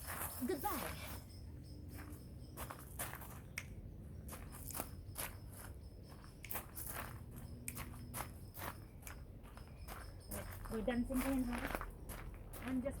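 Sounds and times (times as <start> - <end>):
footsteps crunching on ground: 1.9 - 13.0.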